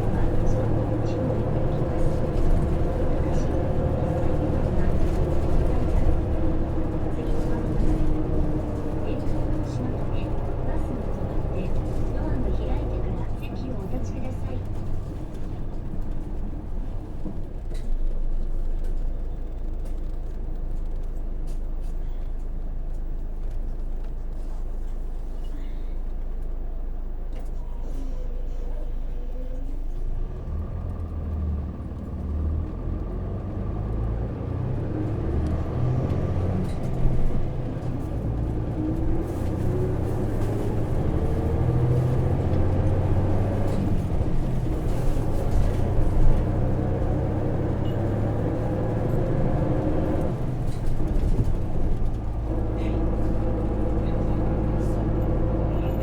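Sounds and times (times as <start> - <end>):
bus diesel engine humming: 0.0 - 56.0.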